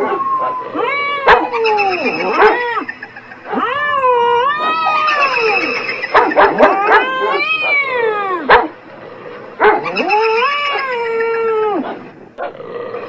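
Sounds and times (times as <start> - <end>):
dog howling: 0.0 - 8.8, 9.6 - 12.0.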